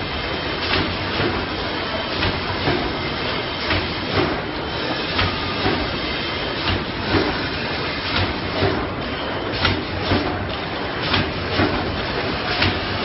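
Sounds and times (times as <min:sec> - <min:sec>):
machine clattering: 0:00.0 - 0:13.0
machine double knock: 0:02.1 - 0:13.0.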